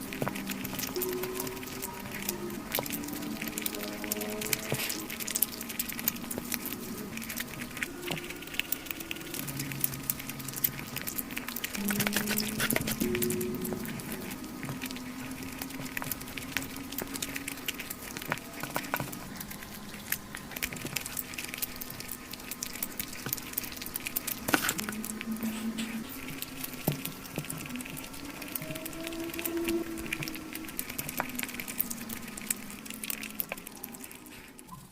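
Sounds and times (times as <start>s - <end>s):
fried chicken crunching: 0.0s - 34.9s.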